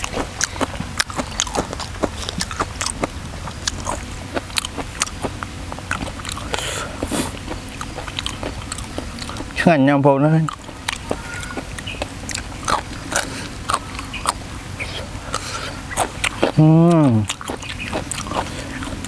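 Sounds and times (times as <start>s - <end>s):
wet chewing and biting: 0.0s - 9.7s, 10.4s - 19.0s.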